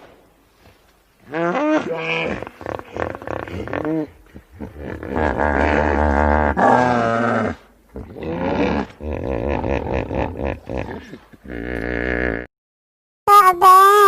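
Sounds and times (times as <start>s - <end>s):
hippopotamus grunting calls: 1.2s - 12.5s.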